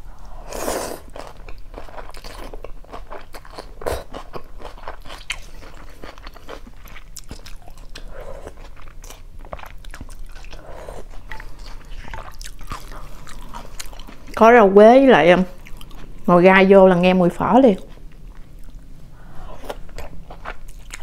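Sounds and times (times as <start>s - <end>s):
person chewing noodles: 0.2s - 14.4s, 15.6s - 16.2s, 17.8s - 21.0s.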